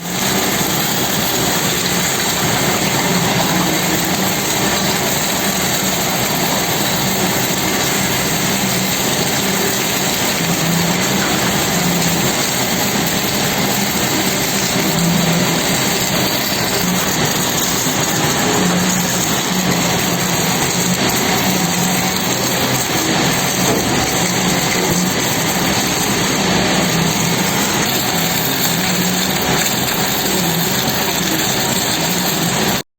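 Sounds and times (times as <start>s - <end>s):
welding arc hissing: 0.0s - 32.8s
machinery humming: 0.0s - 32.9s.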